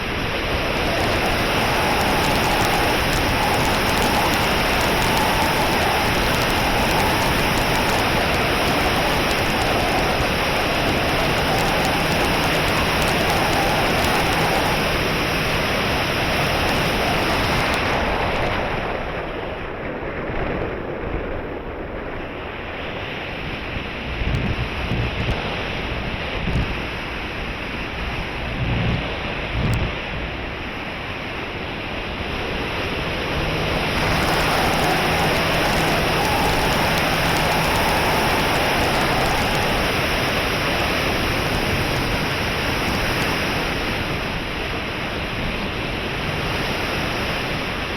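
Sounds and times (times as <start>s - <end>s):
gusts buffeting microphone: 0.0s - 47.9s
wind rushing on microphone: 0.0s - 47.9s.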